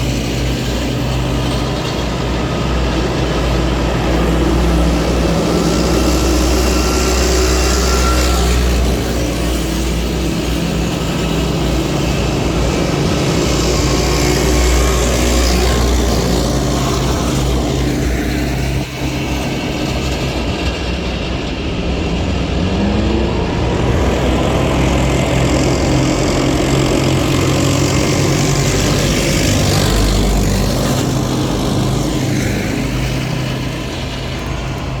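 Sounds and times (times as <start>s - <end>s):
heavy diesel engines driving past: 0.0s - 35.0s.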